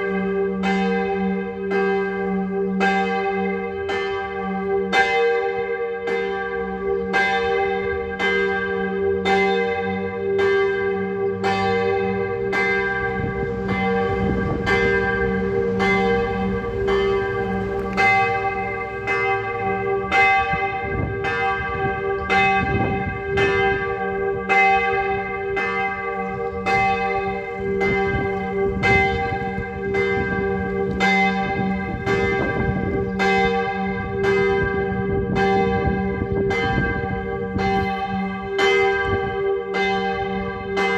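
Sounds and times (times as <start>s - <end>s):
church bell tolling: 0.0s - 40.9s.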